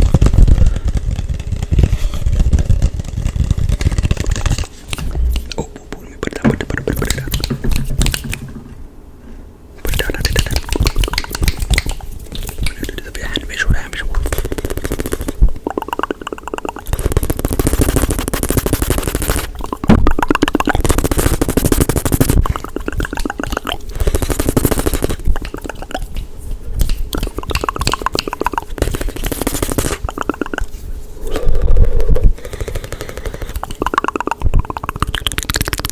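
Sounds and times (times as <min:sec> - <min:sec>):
hissy rubbing and scratching: 0:00.0 - 0:05.6, 0:09.8 - 0:35.9
rapid tapping and clicking: 0:00.0 - 0:05.6, 0:06.4 - 0:08.4, 0:09.8 - 0:30.8, 0:32.4 - 0:35.9.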